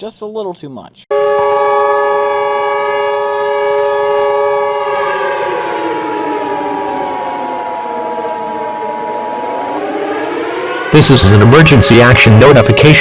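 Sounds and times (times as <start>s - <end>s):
emergency alert tone chord: 1.1s - 13.0s.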